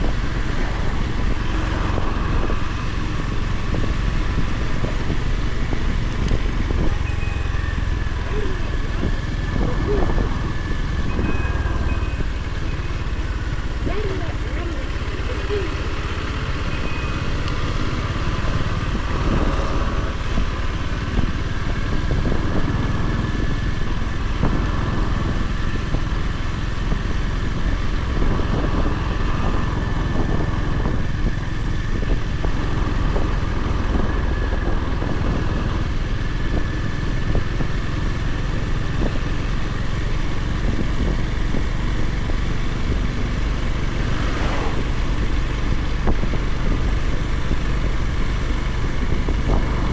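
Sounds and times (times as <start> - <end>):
motorcycle engine thumping: 0.0 - 49.9.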